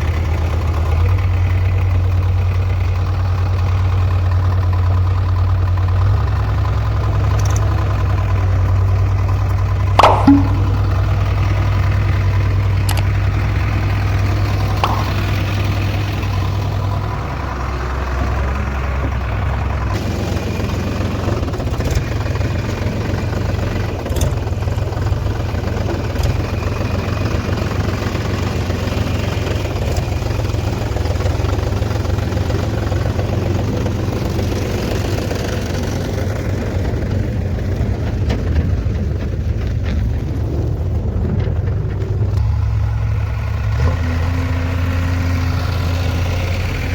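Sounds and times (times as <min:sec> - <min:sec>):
diesel engine humming: 0:00.0 - 0:37.9.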